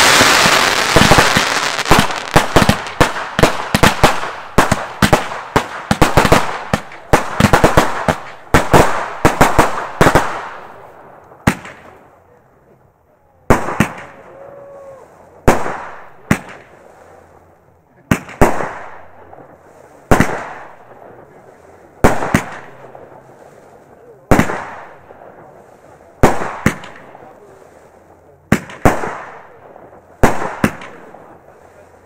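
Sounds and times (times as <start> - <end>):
fireworks bangs: 0.0 - 12.0, 13.4 - 32.0.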